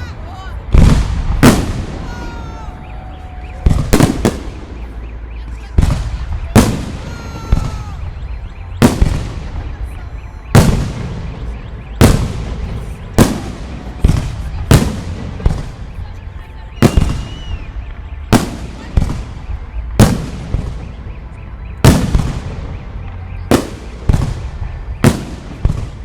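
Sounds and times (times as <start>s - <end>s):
fireworks bangs with rumbling echo: 0.6s - 26.0s.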